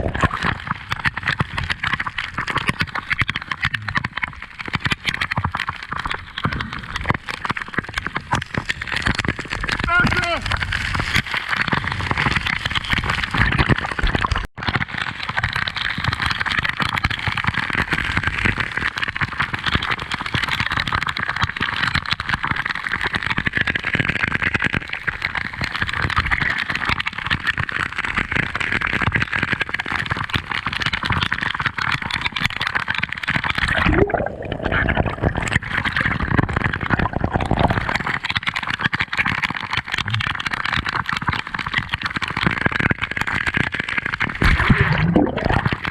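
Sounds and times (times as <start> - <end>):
underwater gurgling water: 0.0 - 45.9.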